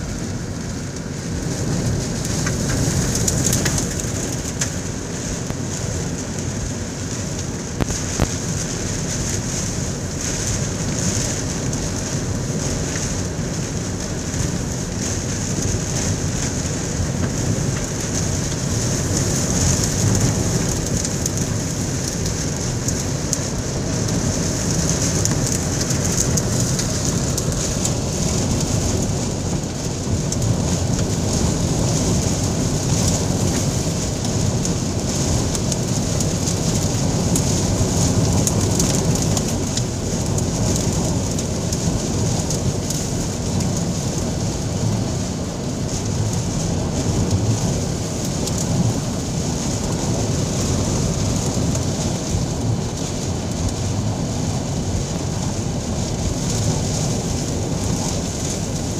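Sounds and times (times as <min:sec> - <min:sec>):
gusting wind rumble: 0:00.0 - 0:58.9
heavy rain beating on vehicle: 0:00.0 - 0:58.9.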